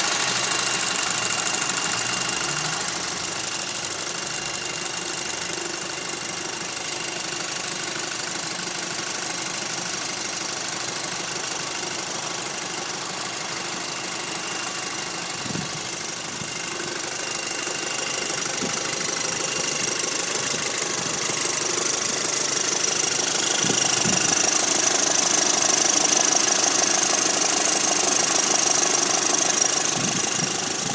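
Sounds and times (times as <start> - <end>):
car engine idling with rattle: 0.0 - 30.9.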